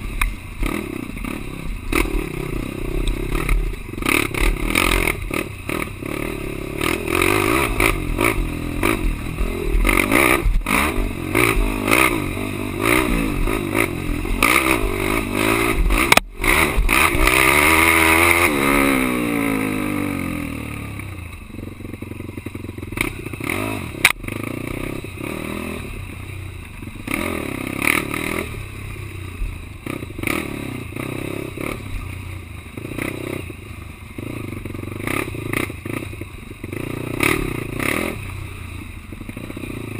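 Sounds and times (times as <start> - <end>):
quad engine revving: 0.6 - 21.7, 22.7 - 26.0, 27.0 - 28.8, 29.8 - 31.9, 34.2 - 38.3.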